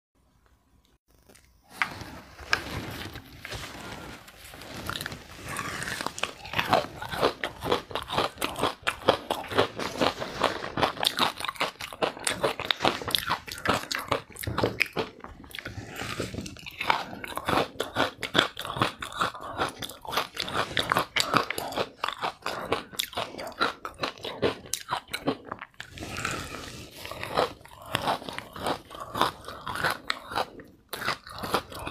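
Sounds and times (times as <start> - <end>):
ice being chewed crunching: 4.6 - 31.9.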